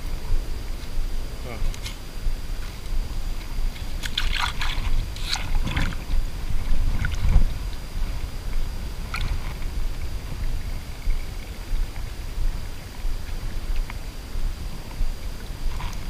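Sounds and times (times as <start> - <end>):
low rumble: 0.0 - 16.0
water splashes: 0.6 - 16.0
river water lapping and sloshing: 1.6 - 16.0.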